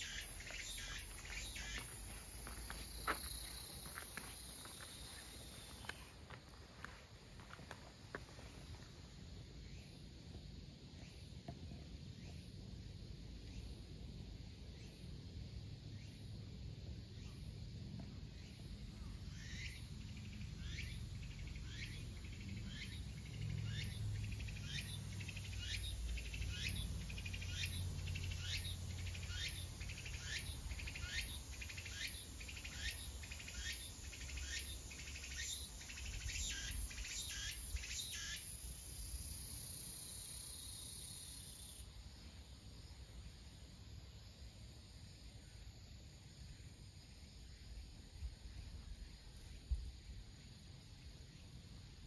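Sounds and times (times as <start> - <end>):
cicada singing: 0.0 - 52.0.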